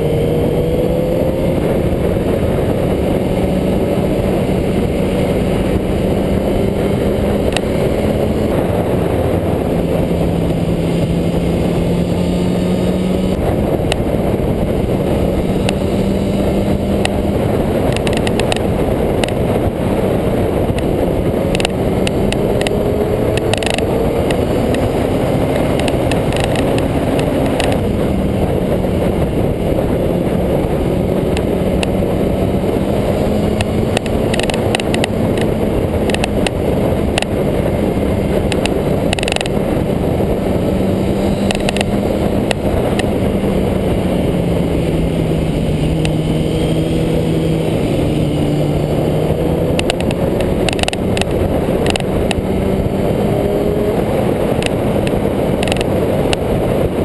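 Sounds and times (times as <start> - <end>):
motorcycle engine drone: 0.0 - 57.0
road noise: 0.0 - 57.0
wind rush on microphone: 0.0 - 57.0.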